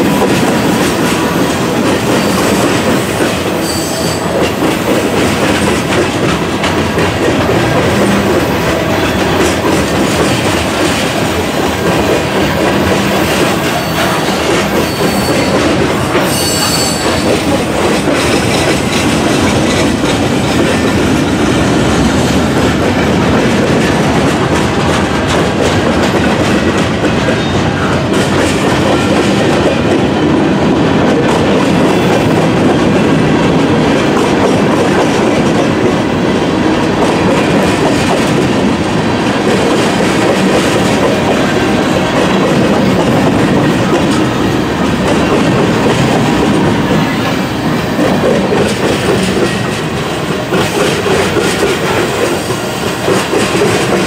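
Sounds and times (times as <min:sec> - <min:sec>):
freight train rumble: 0:00.0 - 0:54.0
train wheels clacking over rail joints: 0:00.0 - 0:54.0.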